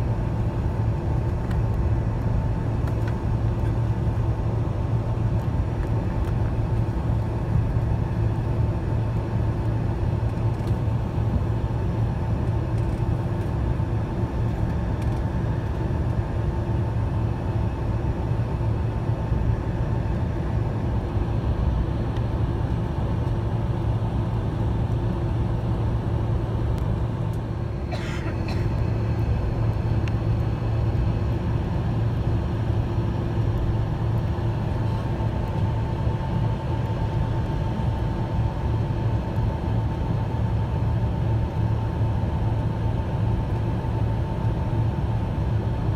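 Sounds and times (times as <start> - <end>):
aircraft engine hum in cabin: 0.0 - 45.9.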